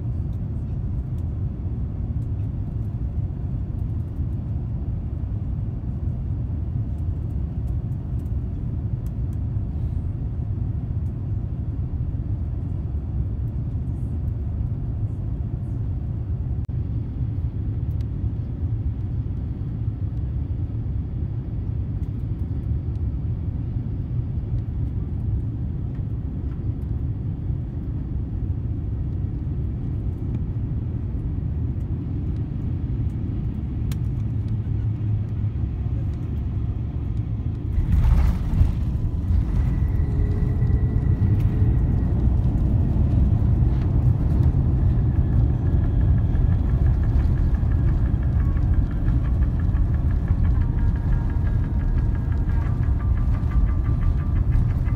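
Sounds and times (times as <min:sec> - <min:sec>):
airplane cabin rumble: 0:00.0 - 0:54.9.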